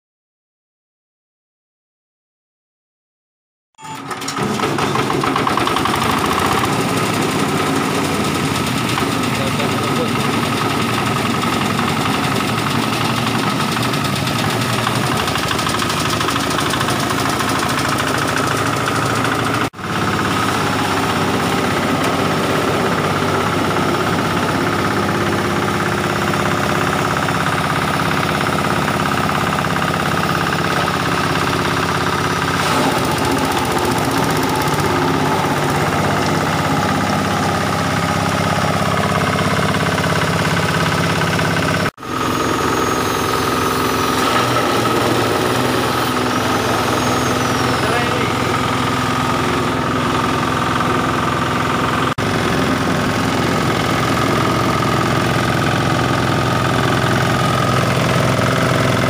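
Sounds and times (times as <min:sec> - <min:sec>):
diesel engine running: 0:03.8 - 0:59.0.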